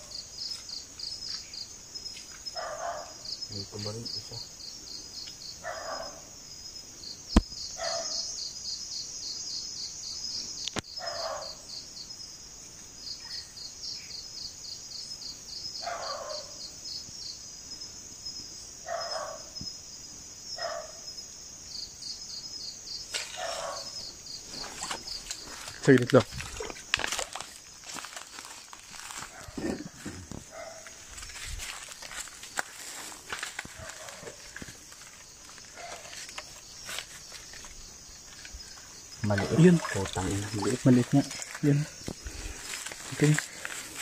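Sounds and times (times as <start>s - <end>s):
crickets trilling: 0.0s - 44.0s.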